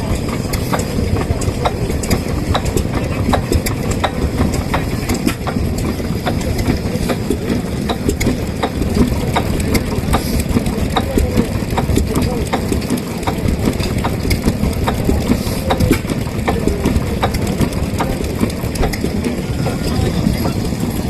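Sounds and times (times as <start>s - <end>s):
sharp engine clicks: 0.0s - 21.0s
stationary engines chugging: 0.0s - 21.0s.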